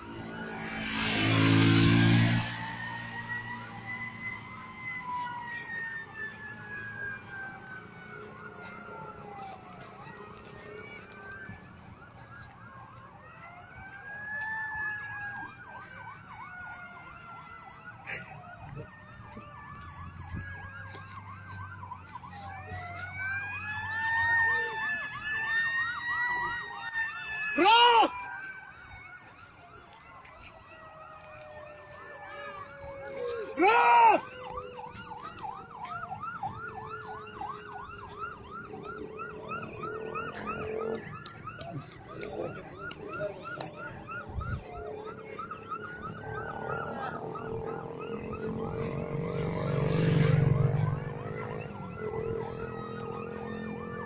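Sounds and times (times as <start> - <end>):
emergency sirens wailing: 0.0 - 54.0.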